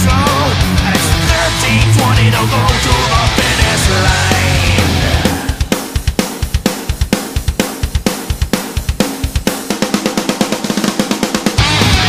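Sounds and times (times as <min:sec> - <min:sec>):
loud hard rock music: 0:00.0 - 0:12.0.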